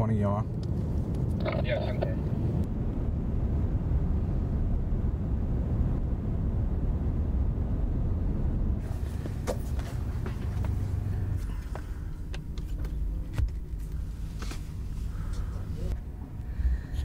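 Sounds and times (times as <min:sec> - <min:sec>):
rushing air rumble: 0:00.5 - 0:17.0.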